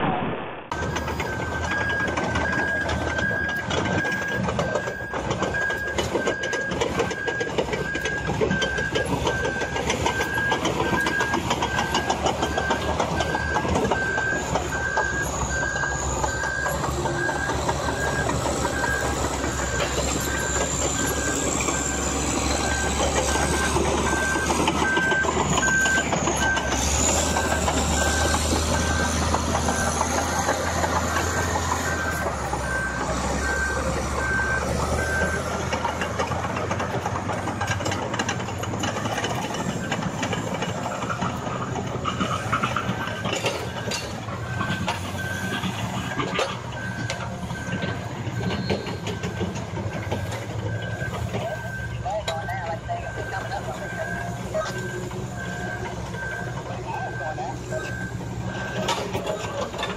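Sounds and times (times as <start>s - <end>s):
bulldozer engine rumble: 0.0s - 59.9s
bulldozer track clatter: 0.0s - 59.9s
back-up alarm beeping: 0.7s - 59.9s.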